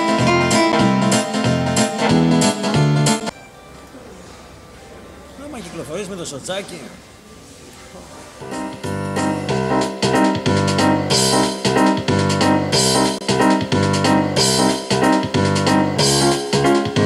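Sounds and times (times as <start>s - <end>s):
keyboard chords: 0.0s - 6.1s, 8.4s - 17.0s.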